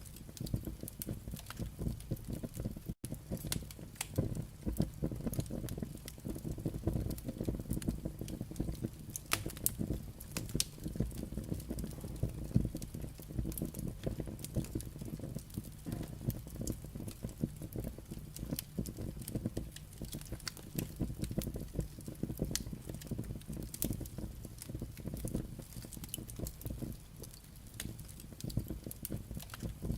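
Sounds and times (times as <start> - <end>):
firewood crackling and popping: 0.0 - 29.9
low rumble of flame: 0.0 - 29.9.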